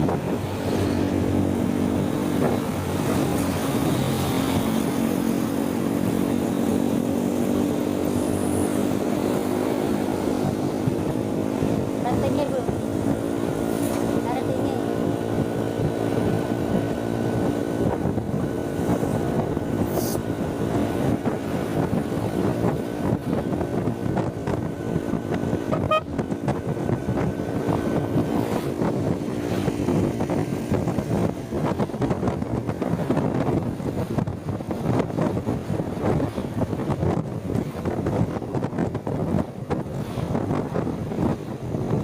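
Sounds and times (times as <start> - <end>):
motorcycle engine hum: 0.0 - 42.0
wind rumbling on microphone: 0.0 - 42.0.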